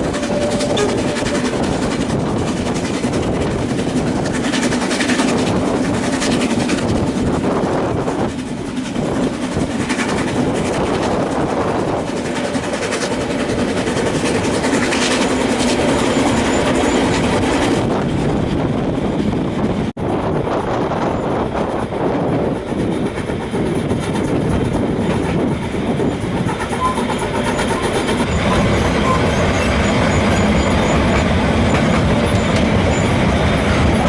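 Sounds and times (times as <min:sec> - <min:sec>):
wheels clattering over rails: 0:00.0 - 0:18.4, 0:20.5 - 0:34.0
steam train running: 0:00.0 - 0:34.0.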